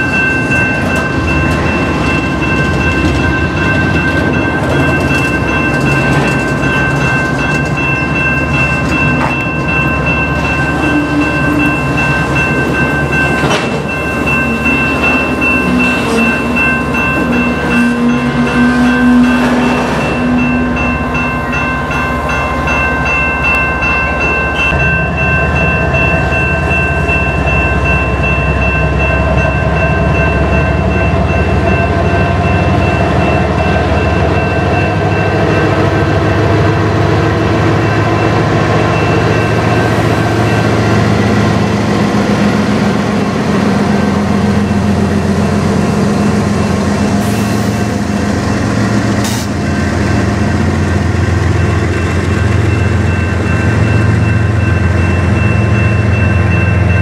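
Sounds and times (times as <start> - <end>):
crossing bell ringing: 0.0 - 57.0
diesel locomotive engine: 0.0 - 57.0
freight train wheels rumbling: 0.0 - 57.0.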